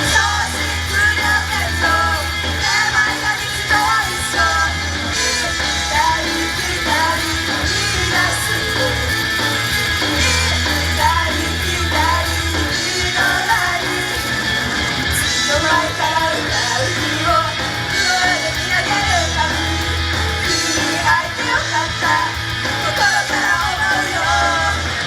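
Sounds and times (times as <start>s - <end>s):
rock pop song with vocals: 0.0s - 25.0s.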